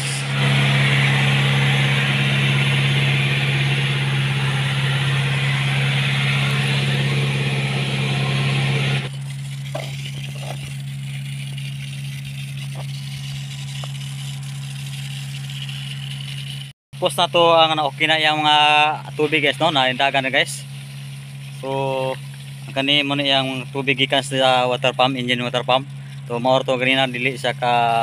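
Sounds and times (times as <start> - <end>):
pump engine humming: 0.0 - 28.0.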